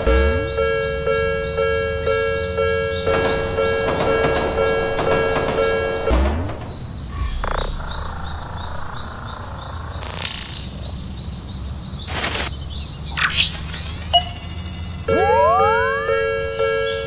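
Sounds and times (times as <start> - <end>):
bird-like chirping: 0.0 - 17.0.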